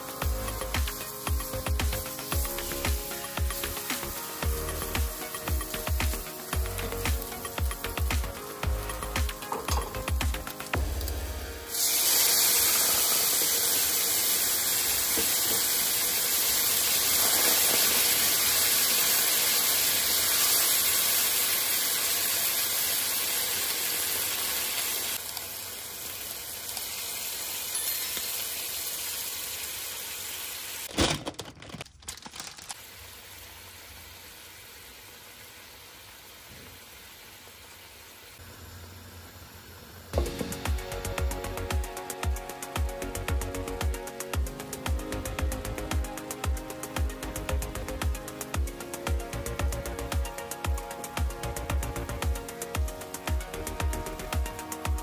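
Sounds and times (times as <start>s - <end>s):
food sizzling in frying pan: 0.0s - 30.9s, 32.7s - 55.0s.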